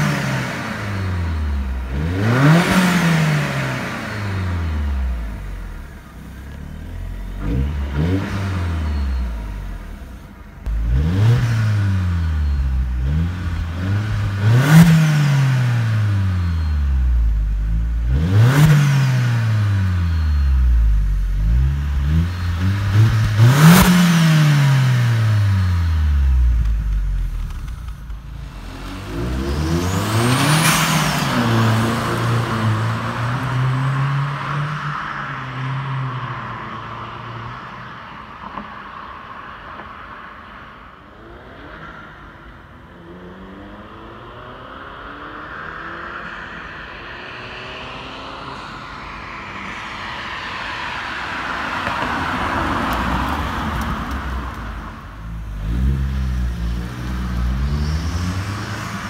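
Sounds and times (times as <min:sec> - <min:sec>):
car engine revving: 0:00.0 - 0:35.8, 0:43.0 - 0:59.0.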